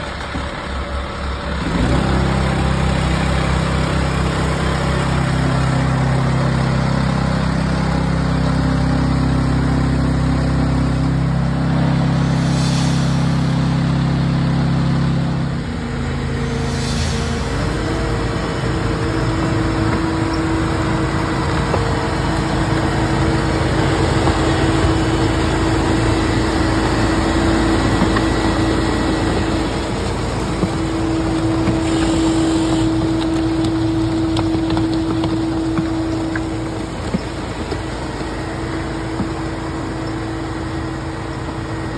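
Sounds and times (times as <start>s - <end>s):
concrete mixer truck engine running: 0.0s - 41.9s
steady machine whine: 2.4s - 41.9s.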